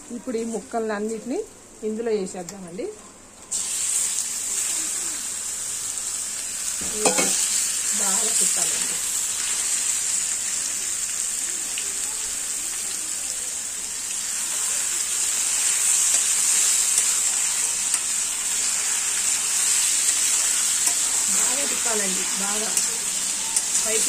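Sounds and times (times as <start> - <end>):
chicken sizzling in hot oil: 3.5 - 24.0.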